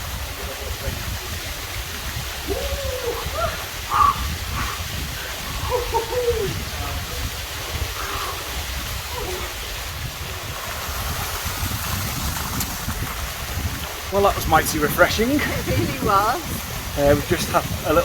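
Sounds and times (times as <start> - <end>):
waterfall splashing onto rock: 0.0 - 18.0.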